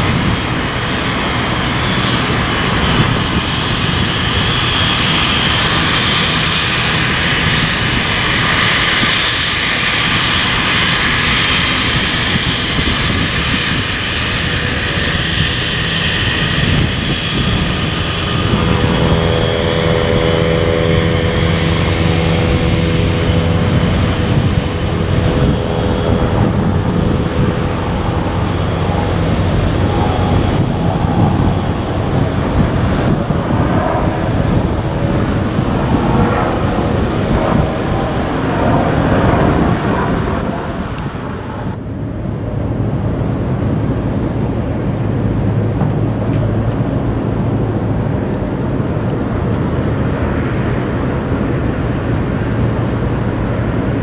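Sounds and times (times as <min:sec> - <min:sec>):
airliner engines running: 0:00.0 - 0:54.0.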